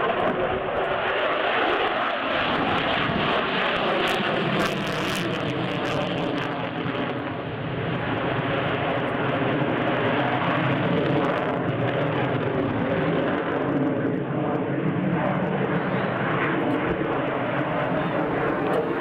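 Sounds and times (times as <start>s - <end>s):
aircraft engine droning: 0.0s - 19.0s.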